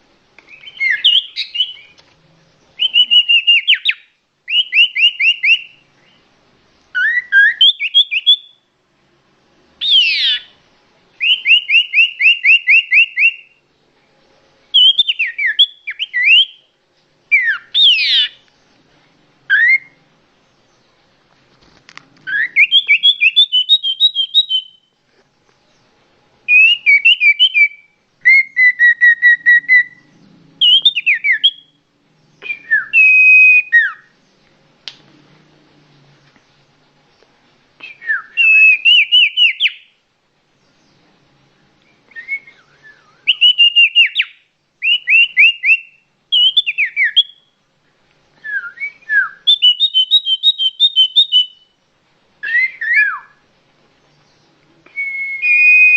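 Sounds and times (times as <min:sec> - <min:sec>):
songbird singing trills: 0:00.4 - 0:08.7, 0:09.8 - 0:10.6, 0:11.2 - 0:21.0, 0:22.2 - 0:25.0, 0:25.6 - 0:34.5, 0:37.1 - 0:47.6, 0:48.4 - 0:51.8, 0:52.4 - 0:55.9.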